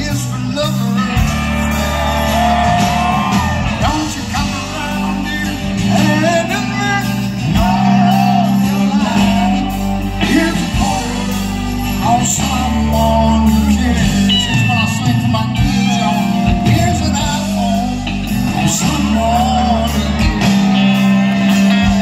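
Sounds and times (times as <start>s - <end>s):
country-rock band playing: 0.0s - 22.0s
man singing lead vocal: 0.0s - 22.0s.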